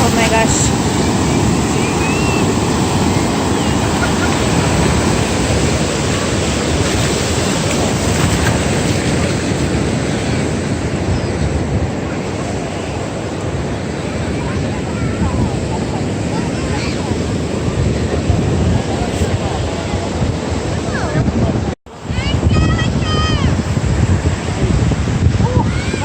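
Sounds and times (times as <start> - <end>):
roar of wind and surf: 0.0 - 26.0.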